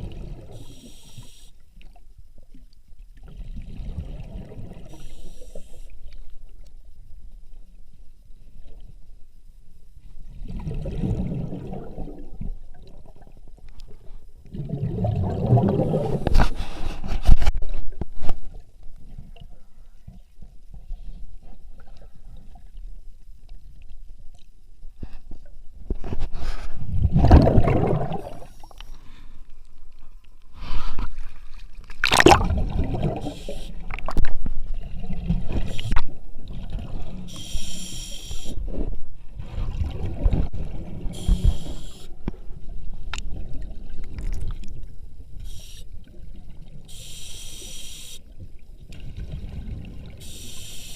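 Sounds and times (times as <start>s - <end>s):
water gurgling and sloshing: 0.0s - 37.7s, 38.5s - 47.6s, 48.2s - 50.9s.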